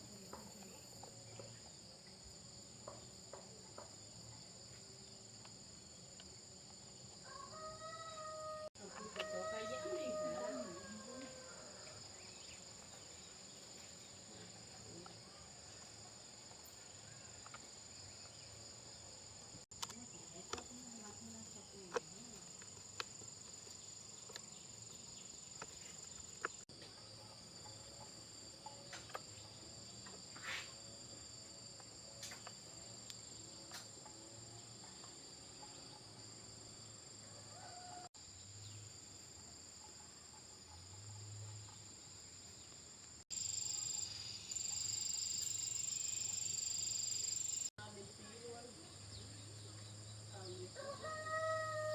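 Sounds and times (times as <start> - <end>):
crickets chirring: 0.0 - 51.9.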